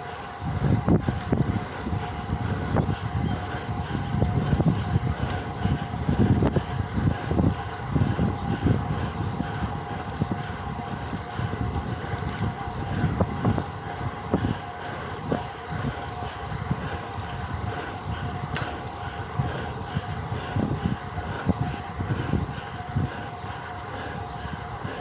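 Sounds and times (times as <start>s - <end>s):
steady hum: 0.0s - 25.0s
wind buffeting microphone: 0.0s - 25.0s.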